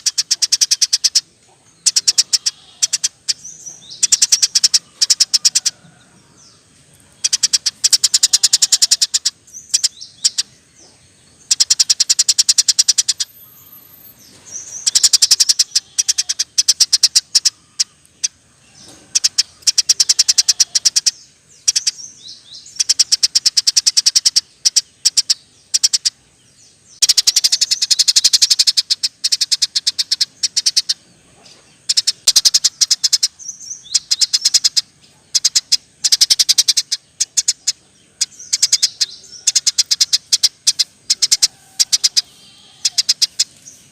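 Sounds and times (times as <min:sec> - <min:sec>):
sparrow trilling chirps: 0:00.0 - 0:43.9.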